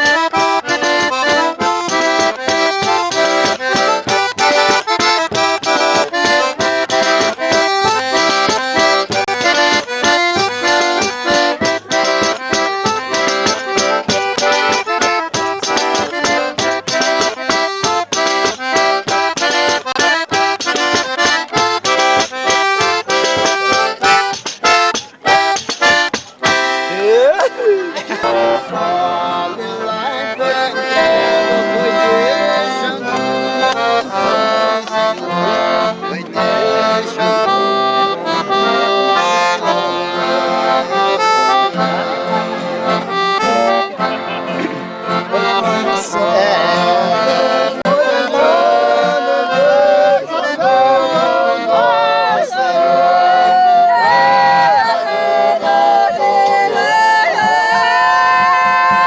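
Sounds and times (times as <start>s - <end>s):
accordion playing folk music: 0.0s - 59.0s.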